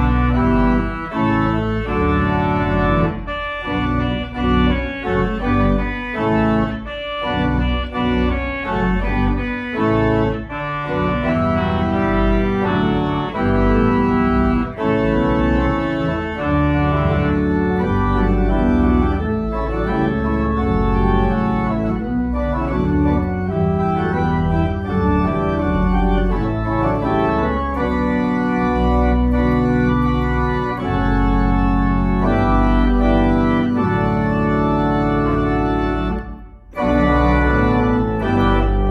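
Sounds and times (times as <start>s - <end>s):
church organ playing chords: 0.0s - 38.9s.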